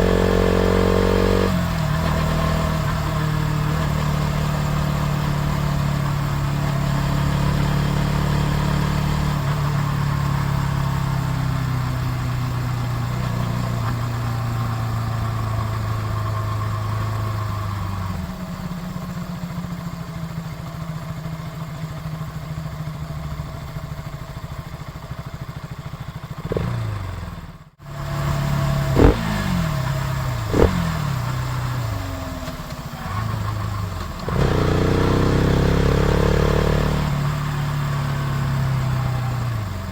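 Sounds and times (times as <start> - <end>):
motorcycle engine revving: 0.0 - 19.8, 23.5 - 39.9.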